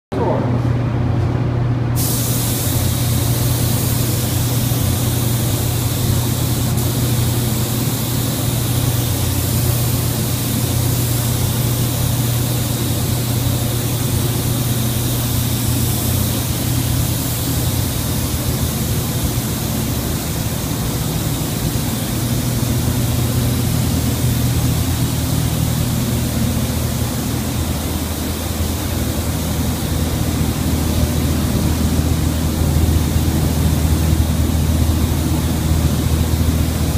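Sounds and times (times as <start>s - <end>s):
paint spray gun hissing: 2.0s - 31.8s.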